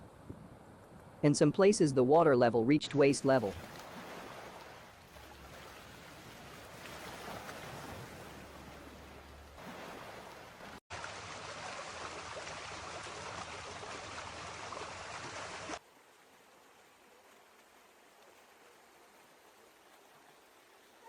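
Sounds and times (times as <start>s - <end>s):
floodwater rushing: 2.8s - 21.0s.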